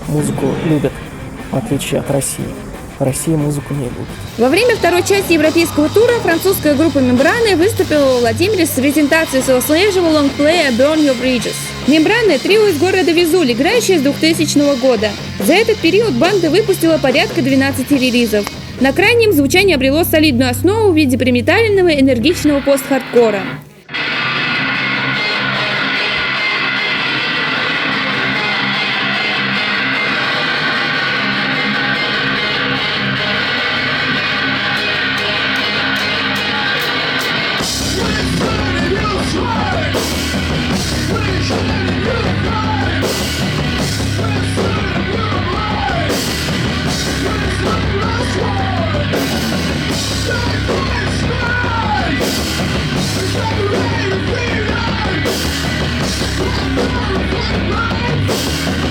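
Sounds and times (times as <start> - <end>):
distorted guitar drone: 0.0 - 58.9
rock band playing: 0.0 - 58.9.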